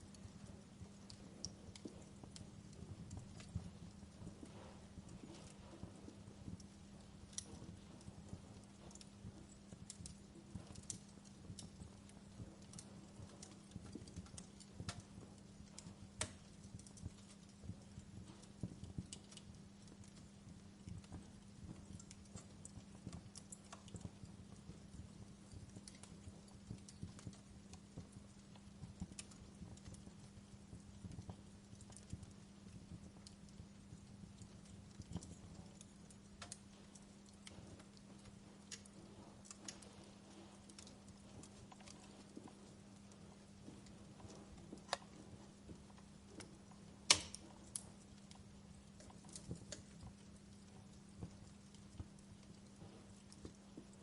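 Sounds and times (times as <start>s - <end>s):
steady low hum: 0.0s - 54.0s
wood fire crackling: 0.0s - 54.0s.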